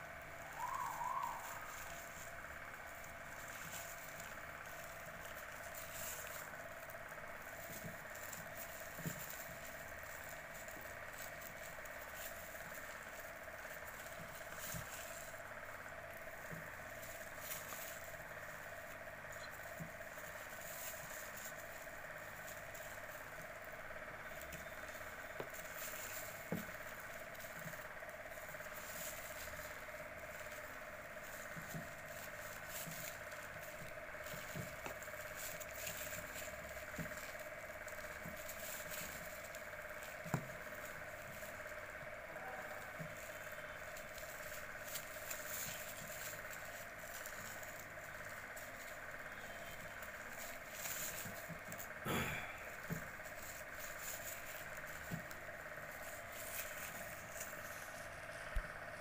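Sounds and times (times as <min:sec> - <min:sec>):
steady background hum: 0:00.0 - 0:59.0
plastic bag crinkling: 0:00.2 - 0:59.0.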